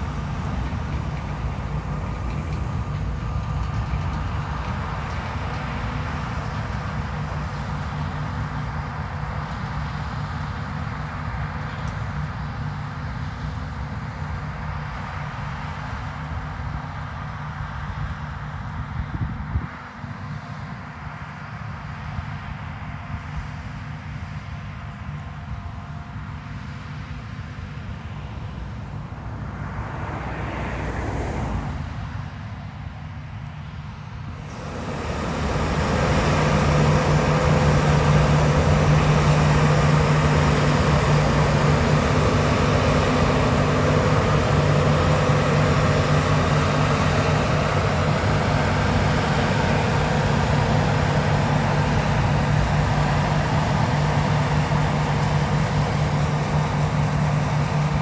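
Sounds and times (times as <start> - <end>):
diesel farm machinery engine: 0.0 - 58.0.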